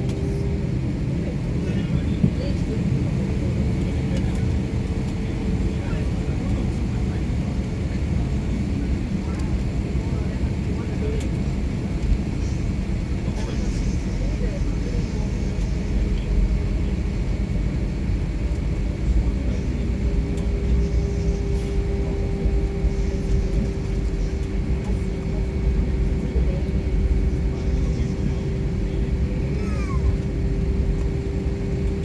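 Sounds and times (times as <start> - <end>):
airliner engine low rumble: 0.0 - 32.0.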